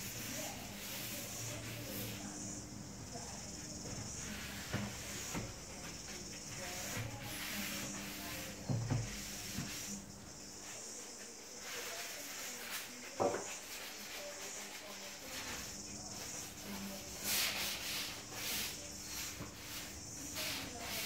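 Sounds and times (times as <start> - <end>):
paintbrush rubbing on wood: 0.0 - 21.0.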